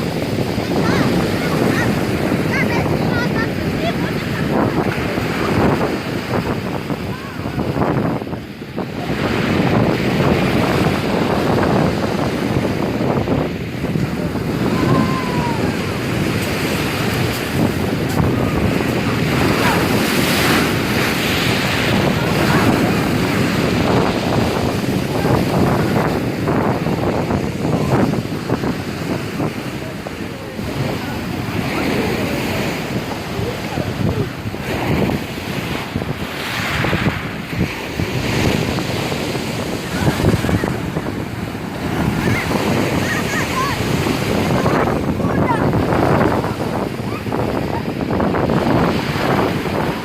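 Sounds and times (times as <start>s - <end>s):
stormy surf breaking: 0.0s - 50.0s
wind buffeting microphone: 0.0s - 50.0s.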